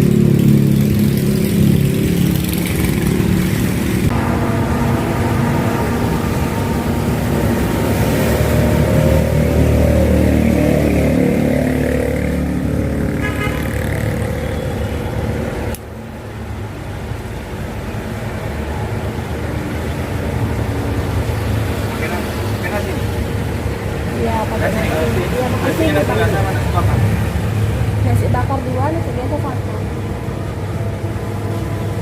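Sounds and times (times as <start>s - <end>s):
motorbike and car engines passing: 0.0s - 32.0s
traffic hum: 0.0s - 32.0s.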